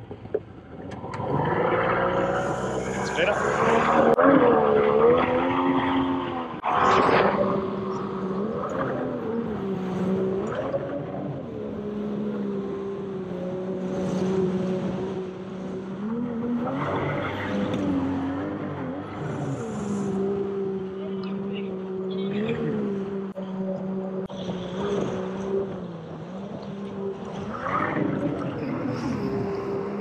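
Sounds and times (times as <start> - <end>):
outboard motor revving: 0.6 - 30.0.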